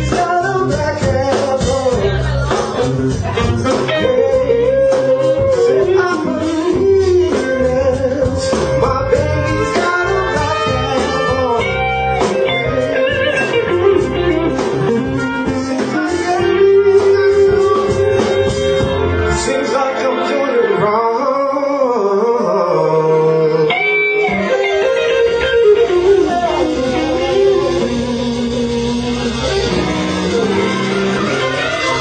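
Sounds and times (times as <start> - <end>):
electric guitar bending notes: 0.0 - 32.0
live blues band playing: 0.0 - 32.0.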